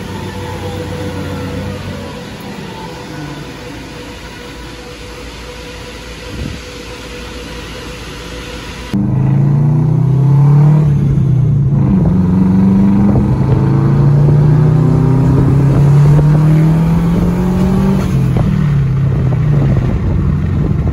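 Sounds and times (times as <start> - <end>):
turbocharged car engine revving: 0.0 - 20.9.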